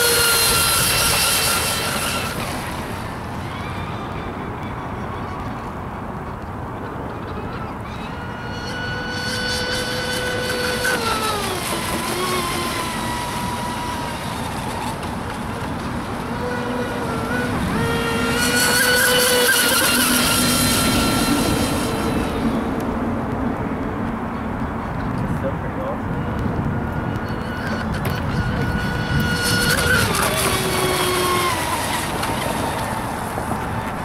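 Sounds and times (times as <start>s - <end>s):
model boat motor whining: 0.0s - 23.4s, 25.8s - 34.0s.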